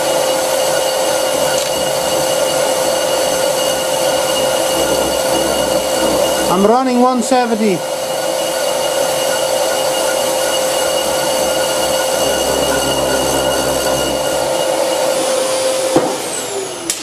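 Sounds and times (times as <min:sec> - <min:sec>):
lathe cutting metal with chatter: 0:00.0 - 0:17.0
deep hum: 0:01.1 - 0:15.4.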